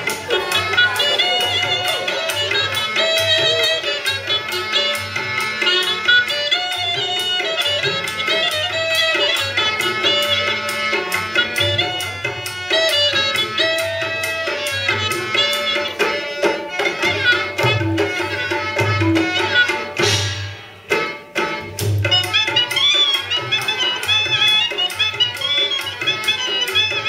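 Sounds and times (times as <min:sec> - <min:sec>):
wavering folk melody: 0:00.0 - 0:20.0, 0:21.0 - 0:27.0
hand drum beat: 0:00.0 - 0:27.0.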